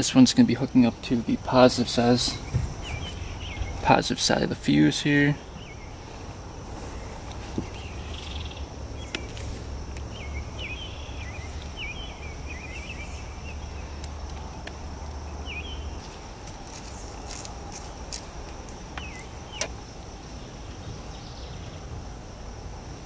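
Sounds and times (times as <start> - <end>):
low steady rumble: 0.0 - 22.9
birds chirping: 0.0 - 23.0.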